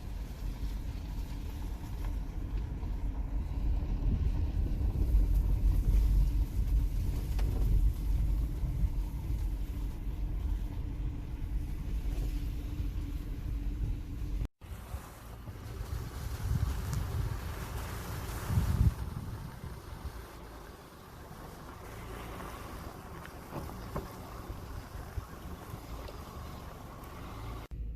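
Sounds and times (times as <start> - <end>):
car driving on dirt trail: 0.0 - 27.9.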